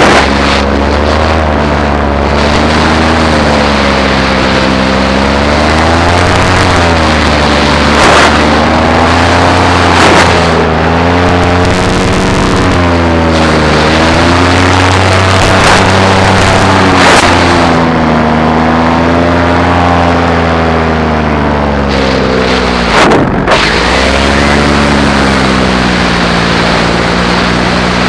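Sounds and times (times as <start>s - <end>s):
paramotor engine and propeller: 0.0s - 28.0s.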